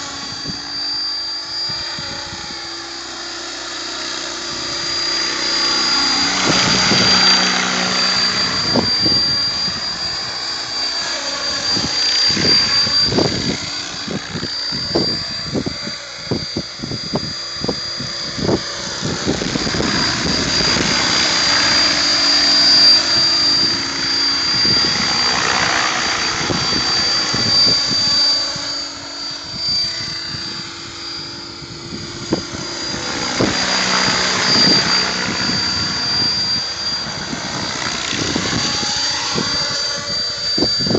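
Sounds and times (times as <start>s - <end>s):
helicopter motor whine: 0.0s - 40.9s
rotor blade whoosh: 0.0s - 40.9s.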